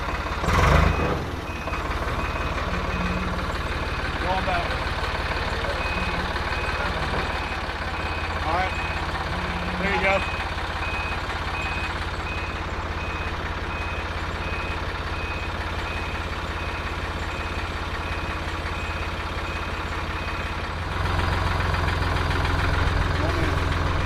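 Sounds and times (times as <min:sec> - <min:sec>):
forklift engine running: 0:00.0 - 0:24.0
reversing alarm beeping: 0:00.6 - 0:20.6.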